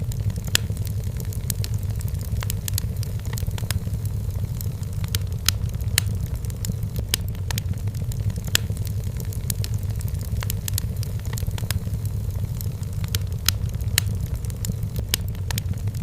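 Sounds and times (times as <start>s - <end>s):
burning logs crackling: 0.0s - 16.0s
flames rumbling: 0.0s - 16.0s.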